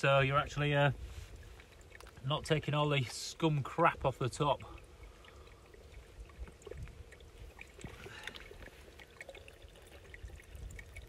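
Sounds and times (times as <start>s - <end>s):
faint water trickle: 0.0s - 11.0s.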